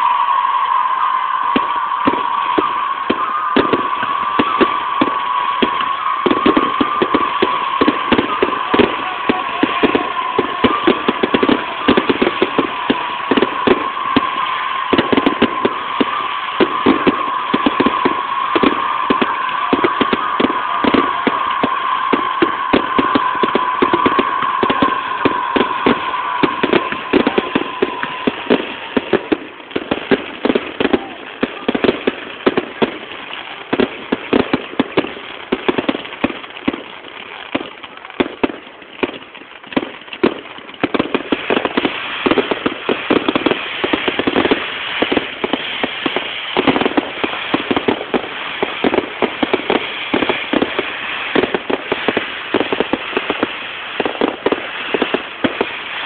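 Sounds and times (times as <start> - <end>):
firework whistle: 0.0 - 56.0
fireworks bangs and crackles: 0.0 - 56.0.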